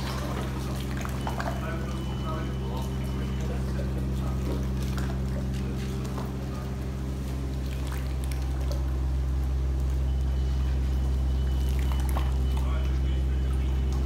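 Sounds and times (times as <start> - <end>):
pump engine humming: 0.0 - 14.0.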